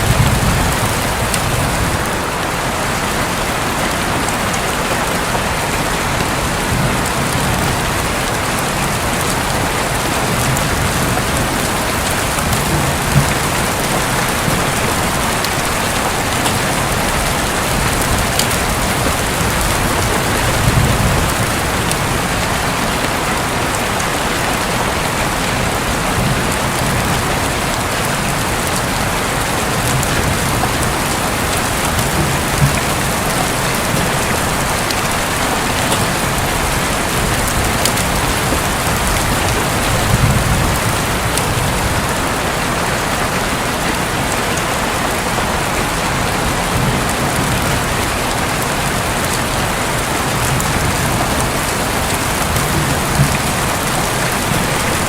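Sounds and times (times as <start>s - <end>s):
heavy rain on a roof: 0.0s - 55.0s.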